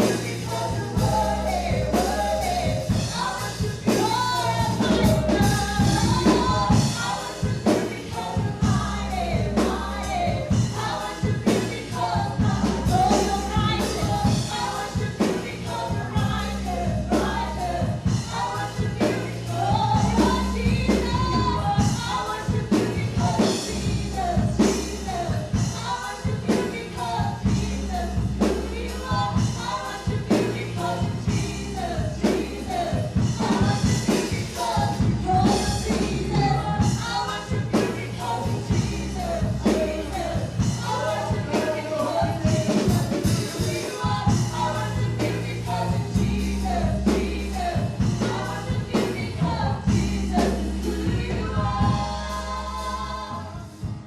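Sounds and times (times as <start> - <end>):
bass and drum beat: 0.0 - 54.0
gospel band playing: 0.0 - 54.0
group of singers: 0.0 - 54.0.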